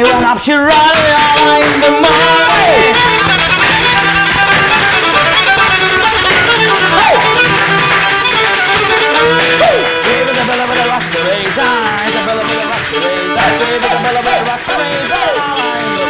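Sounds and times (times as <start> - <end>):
fiddle playing folk dance tune: 0.0 - 16.0
hard shoes tapping on floor: 0.0 - 16.0
strummed string instrument: 0.0 - 16.0.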